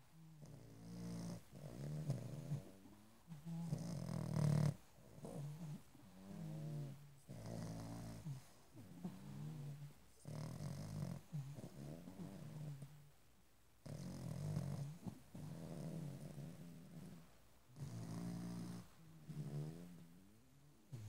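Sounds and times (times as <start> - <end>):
dog snoring: 0.2 - 13.0, 13.8 - 21.0.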